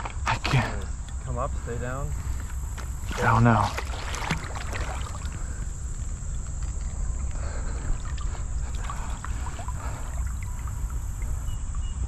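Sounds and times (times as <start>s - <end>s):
steady low rumble: 0.0s - 12.0s
water sloshing around wading person: 2.2s - 12.0s.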